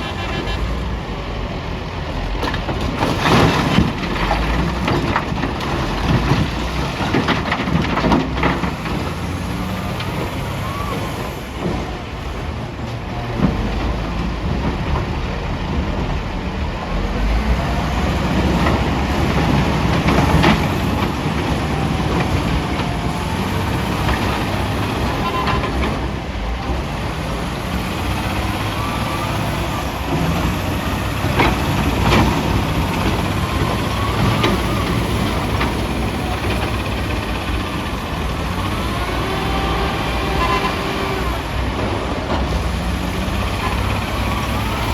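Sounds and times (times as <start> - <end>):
heavy diesel machinery running: 0.0 - 44.9.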